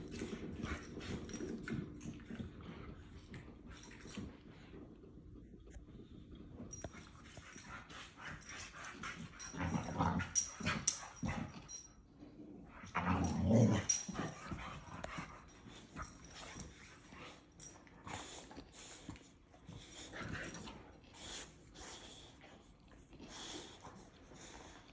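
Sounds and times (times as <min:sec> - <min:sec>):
dog play noises: 0:00.0 - 0:24.9.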